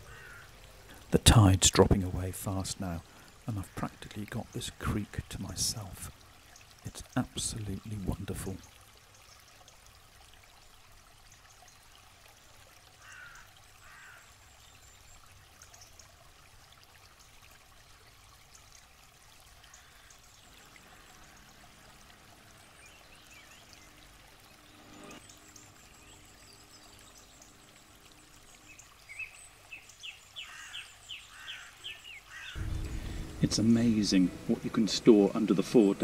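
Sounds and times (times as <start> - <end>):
brook trickling: 0.0 - 36.0.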